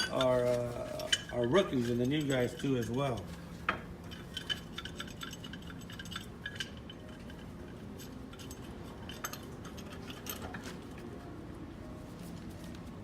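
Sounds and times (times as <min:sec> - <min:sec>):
metal pipe fittings clinking: 0:00.0 - 0:10.9
low steady hum: 0:00.0 - 0:13.0.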